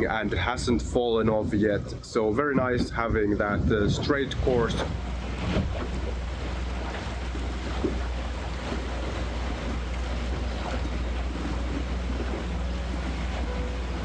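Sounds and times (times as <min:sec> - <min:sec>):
water along boat hull: 0:00.0 - 0:14.0
wind rumble on microphone: 0:00.0 - 0:14.0.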